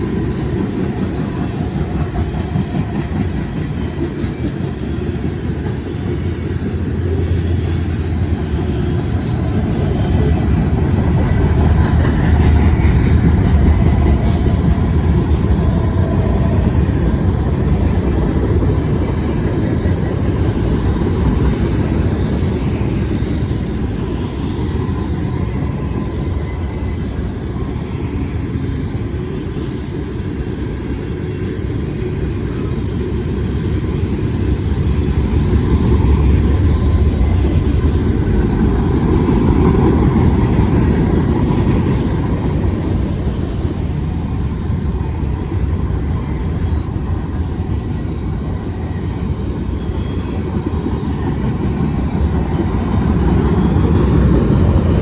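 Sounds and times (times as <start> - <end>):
train passing with low rumble: 0.0 - 55.0.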